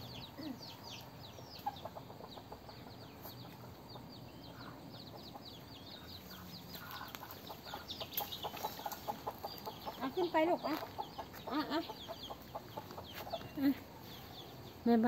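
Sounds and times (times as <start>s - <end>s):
hen clucking: 0.0s - 14.7s
chicks peeping: 0.0s - 14.9s.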